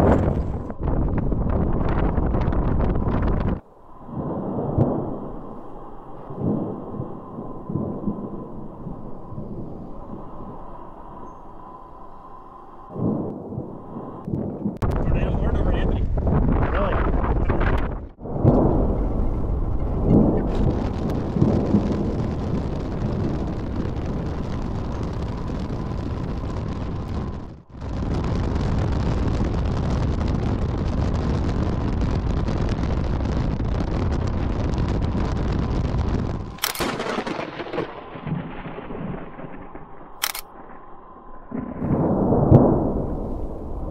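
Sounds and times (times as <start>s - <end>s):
thunder rumbling and cracking: 0.0s - 11.2s, 12.9s - 43.9s
rushing storm noise: 0.0s - 43.9s.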